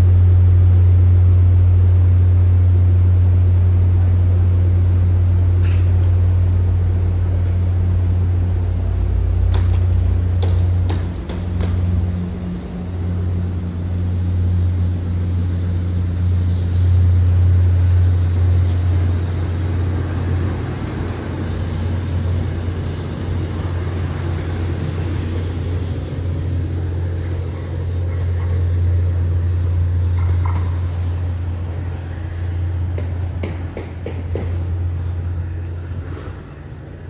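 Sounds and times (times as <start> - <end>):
faint high whine: 0.0 - 10.8, 11.7 - 33.0
vehicle rumble: 0.0 - 37.0.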